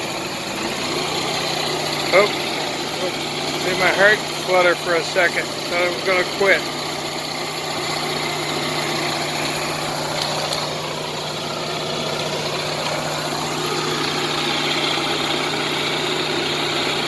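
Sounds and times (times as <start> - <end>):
generator engine humming: 0.0 - 17.0.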